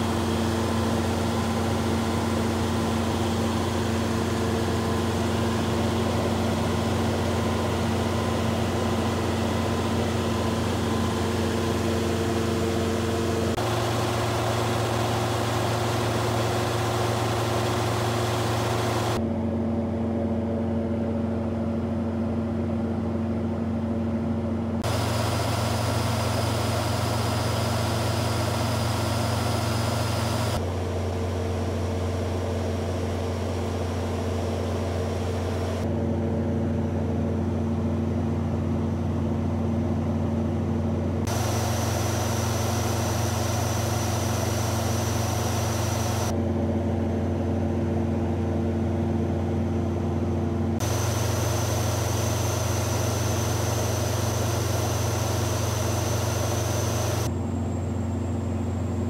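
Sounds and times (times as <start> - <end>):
diesel generator humming: 0.0 - 21.9, 22.6 - 47.2, 49.4 - 59.0.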